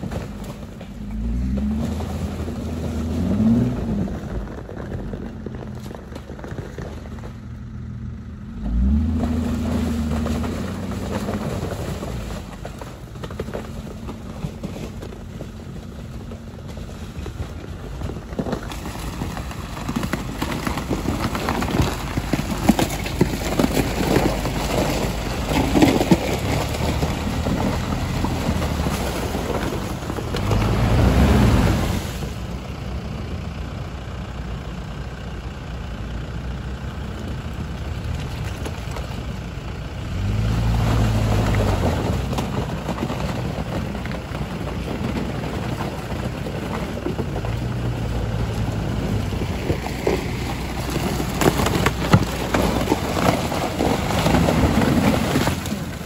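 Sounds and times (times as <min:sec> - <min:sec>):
ice cracking under tyres: 0:00.0 - 0:07.6, 0:08.7 - 0:32.8, 0:37.5 - 0:56.0
car engines running: 0:00.0 - 0:56.0.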